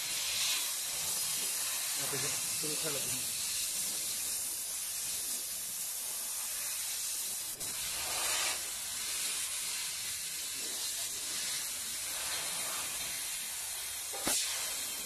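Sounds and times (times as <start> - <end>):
laser cutter hissing: 0.0 - 15.0.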